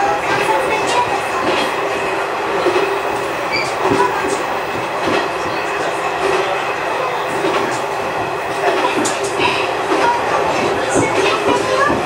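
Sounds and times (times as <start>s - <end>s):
railcar engine hum: 0.0s - 12.0s.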